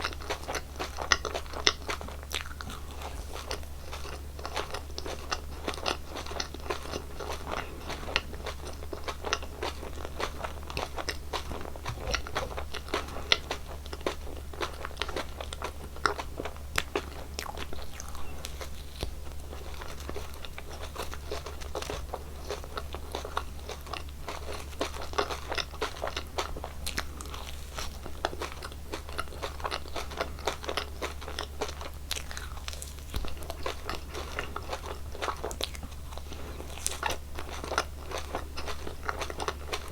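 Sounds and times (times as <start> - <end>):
chewing gummy candies: 0.0 - 39.9
sticky crackly mouth sounds: 0.0 - 39.9.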